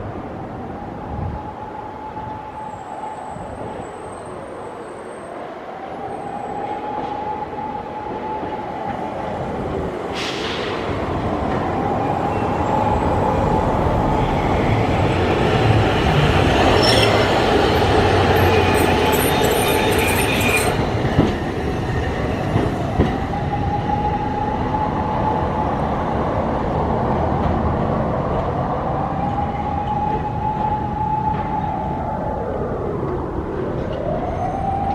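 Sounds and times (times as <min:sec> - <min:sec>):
streetcar rolling noise: 0:00.0 - 0:34.9.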